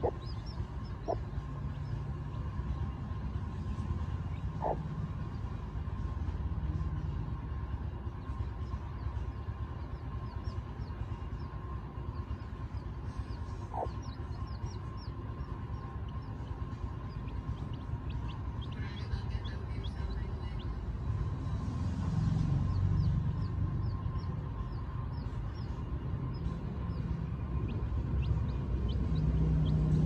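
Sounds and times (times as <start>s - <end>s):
chicks peeping: 0.0s - 5.6s, 8.4s - 20.8s, 22.6s - 30.0s
steady low rumble: 0.0s - 30.0s.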